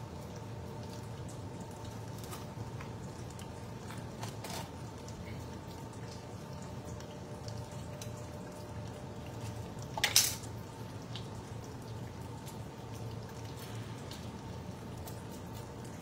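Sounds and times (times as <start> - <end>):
water dripping and splashing: 0.0 - 16.0.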